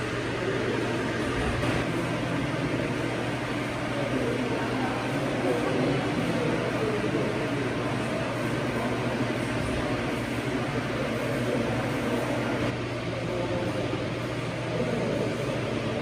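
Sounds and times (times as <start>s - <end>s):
electric fan air rush: 0.0s - 16.0s.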